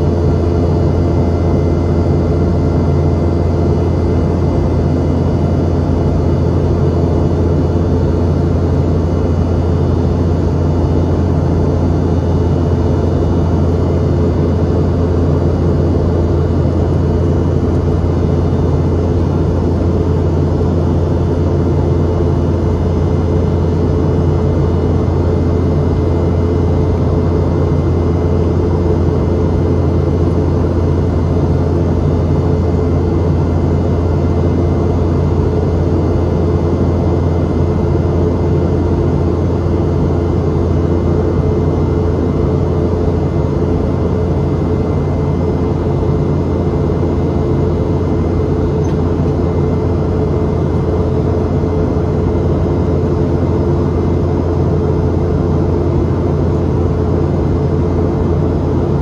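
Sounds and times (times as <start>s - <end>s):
engine and airflow rush: 0.0s - 59.0s
jet engine cabin hum: 0.0s - 59.0s.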